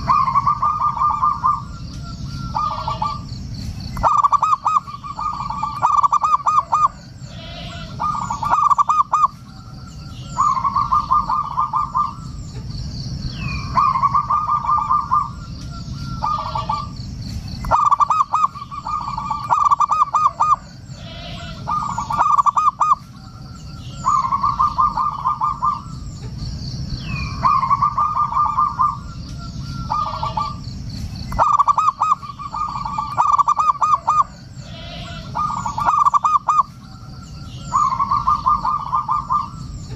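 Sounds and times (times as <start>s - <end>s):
dove cooing: 0.0s - 12.6s, 13.4s - 17.0s, 17.6s - 26.3s, 27.1s - 30.7s, 31.3s - 39.9s
small birds chirping: 0.0s - 39.9s.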